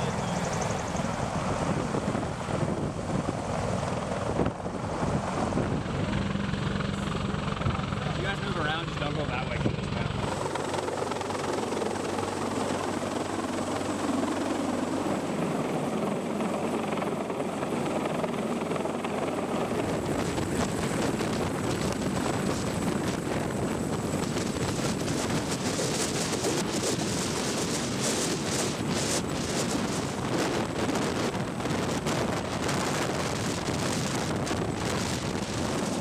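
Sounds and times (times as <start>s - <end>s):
helicopter rotor and engines: 0.0s - 36.0s.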